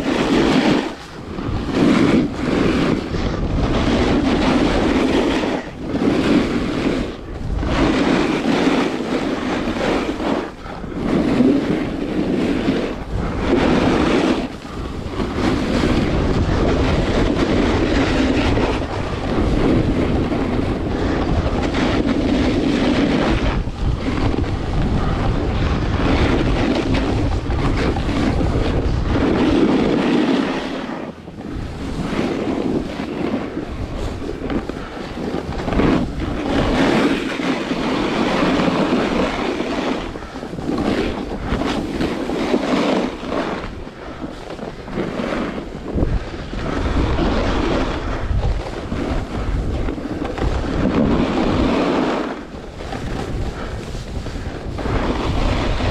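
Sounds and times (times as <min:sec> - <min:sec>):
skis scraping over snow: 0:00.0 - 0:55.9
wind rushing over microphone: 0:00.0 - 0:55.9.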